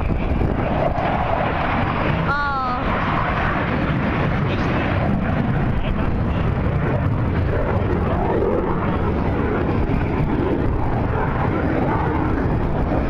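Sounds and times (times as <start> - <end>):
jet engines flying overhead: 0.0 - 13.0.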